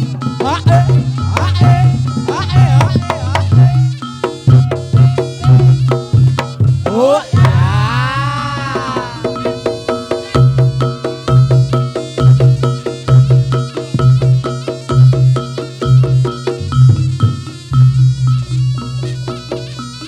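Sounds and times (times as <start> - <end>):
deep drum beat: 0.0 - 18.4
repeated metallophone notes: 0.0 - 20.0.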